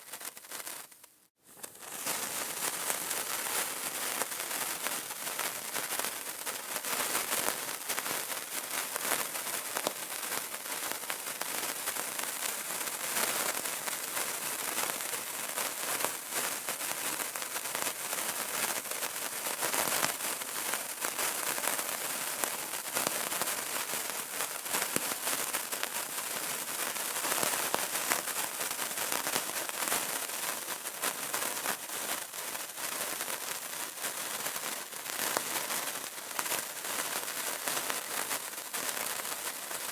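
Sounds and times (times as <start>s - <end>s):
candle crackling: 0.0s - 31.1s, 31.8s - 39.9s.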